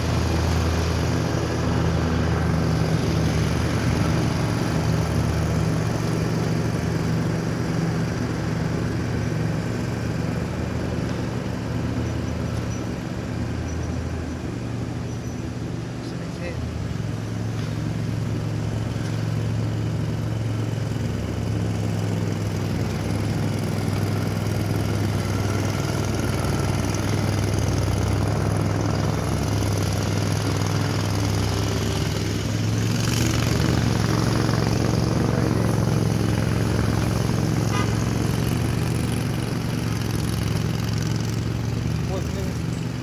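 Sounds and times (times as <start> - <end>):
lawn mower engine running: 0.0 - 43.0.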